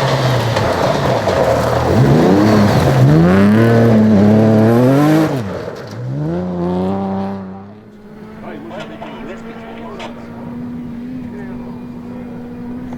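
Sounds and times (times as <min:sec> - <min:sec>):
rally car engine accelerating: 0:00.0 - 0:12.9.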